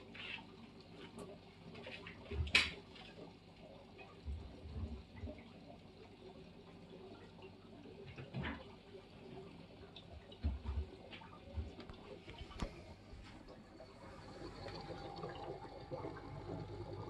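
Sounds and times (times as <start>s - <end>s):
filter low hum: 0.0s - 17.0s
water trickling and splashing: 0.0s - 17.0s.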